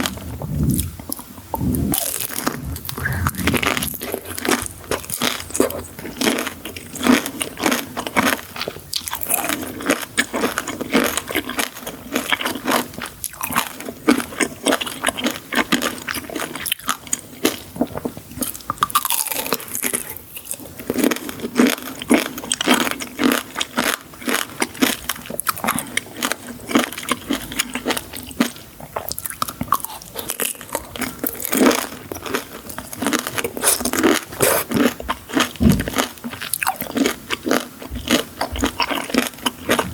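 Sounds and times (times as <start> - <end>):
crunchy sweets being chewed: 0.0 - 39.9.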